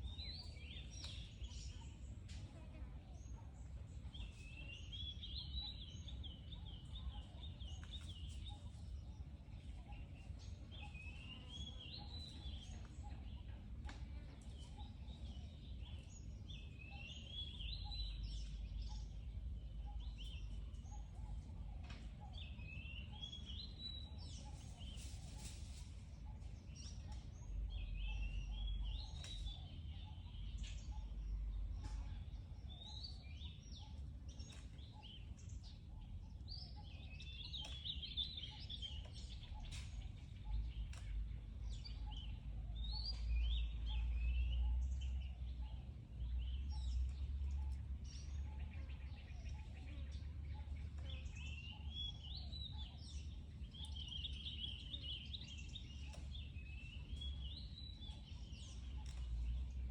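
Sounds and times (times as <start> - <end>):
bird singing warbling phrases: 0.0 - 59.9
low steady rumble: 3.0 - 59.9.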